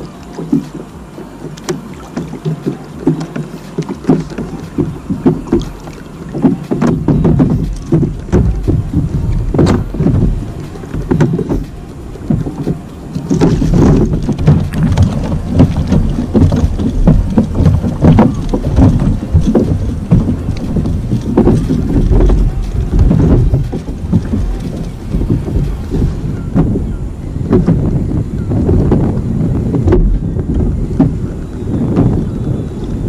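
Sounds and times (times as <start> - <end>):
water lapping against hull: 0.0 - 33.0
wind buffeting microphone: 0.0 - 33.0.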